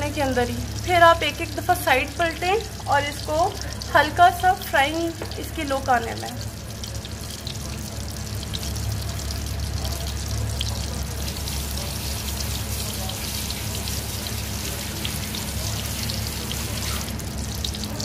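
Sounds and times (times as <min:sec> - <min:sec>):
chicken deep-frying in hot oil: 0:00.0 - 0:18.0.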